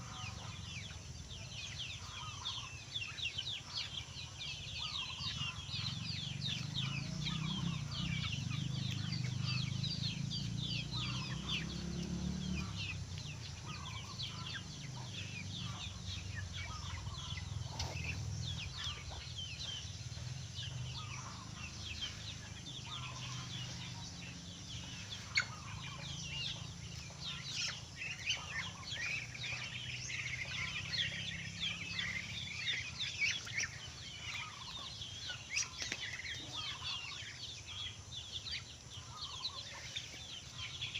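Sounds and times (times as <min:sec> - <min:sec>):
poultry peeping and clucking: 0:00.0 - 0:40.9.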